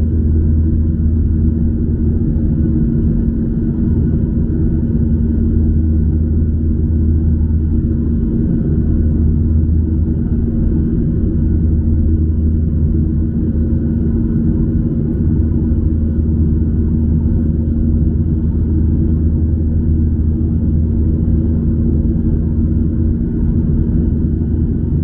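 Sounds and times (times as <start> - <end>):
jet engine and airflow drone: 0.0 - 25.0.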